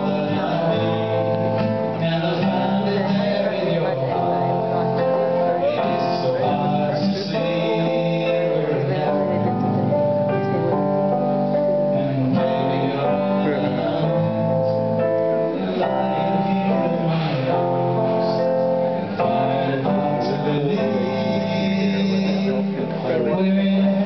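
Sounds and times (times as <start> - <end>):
man singing: 0.0 - 11.1, 11.7 - 24.0
acoustic guitar: 0.0 - 24.0
piano playing: 0.0 - 24.0.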